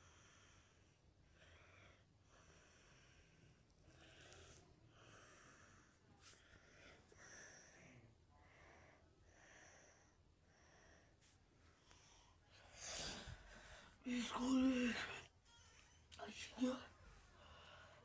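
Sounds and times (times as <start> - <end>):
faint breathing: 0.0 - 15.9, 16.9 - 18.0.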